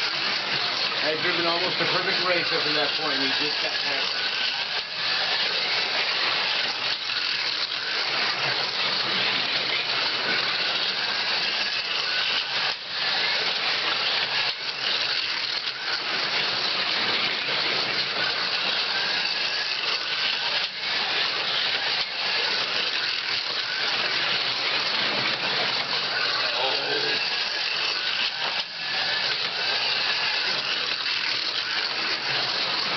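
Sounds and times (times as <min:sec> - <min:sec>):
slot cars buzzing on track: 0:00.0 - 0:32.9.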